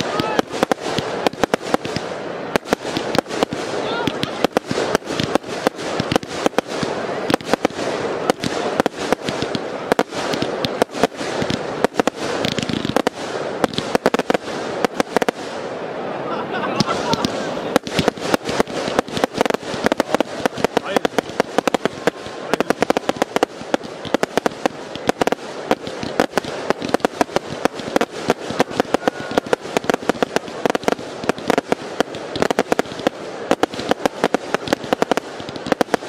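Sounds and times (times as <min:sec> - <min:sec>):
fireworks barrage: 0:00.0 - 0:36.0.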